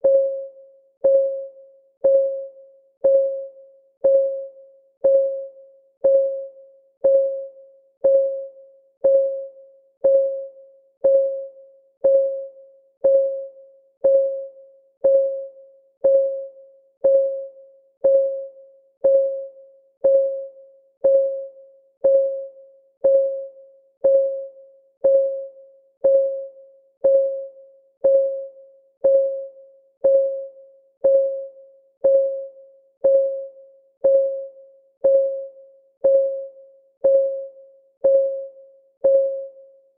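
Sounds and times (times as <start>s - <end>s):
timer ticking: 1.0s - 39.5s.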